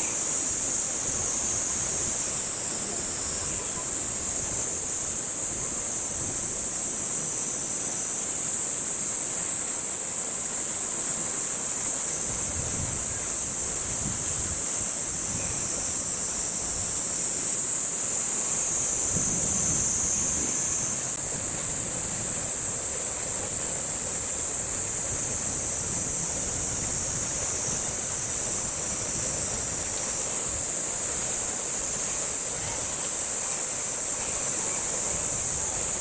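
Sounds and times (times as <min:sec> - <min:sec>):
cicada chorus: 0:00.0 - 0:36.0.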